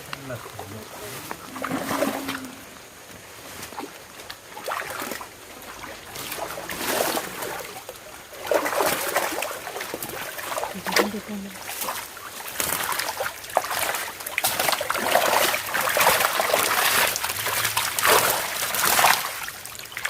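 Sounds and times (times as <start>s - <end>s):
water splashing and trickling: 0.0s - 20.0s.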